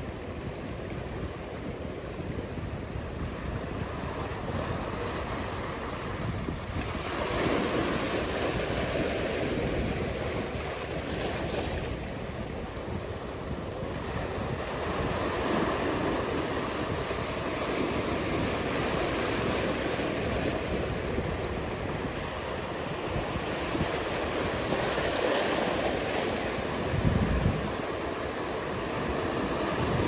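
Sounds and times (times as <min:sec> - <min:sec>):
ocean waves breaking: 0:00.0 - 0:30.0
wind buffeting microphone: 0:00.0 - 0:30.0.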